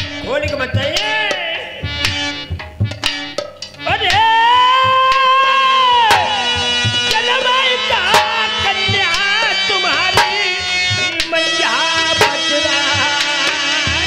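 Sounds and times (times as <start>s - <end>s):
drum beating: 0.0s - 14.0s.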